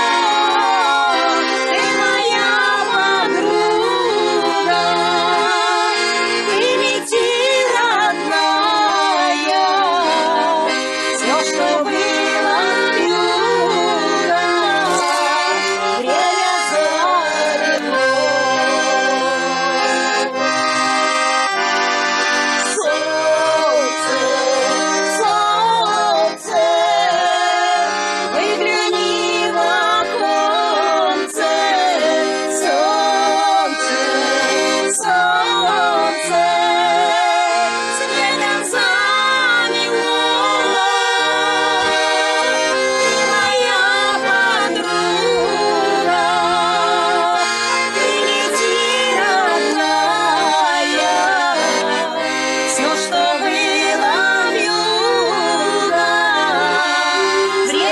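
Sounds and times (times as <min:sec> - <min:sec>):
women singing with vibrato: 0:00.0 - 0:21.5, 0:22.5 - 0:57.9
piano accordion: 0:00.0 - 0:57.9.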